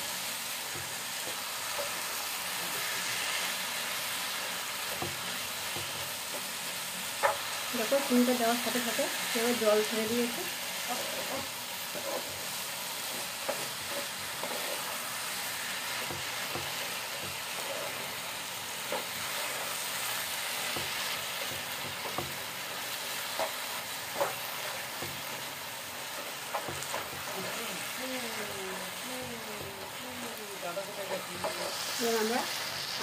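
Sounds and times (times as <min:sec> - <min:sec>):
carrot sizzling in a frying pan: 0:00.0 - 0:33.0
wooden spatula scraping pan: 0:04.4 - 0:33.0.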